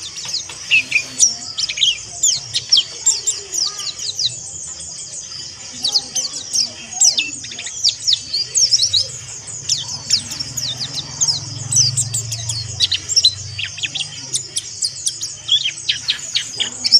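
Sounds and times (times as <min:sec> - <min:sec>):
bird twittering high chirps: 0:00.0 - 0:16.9.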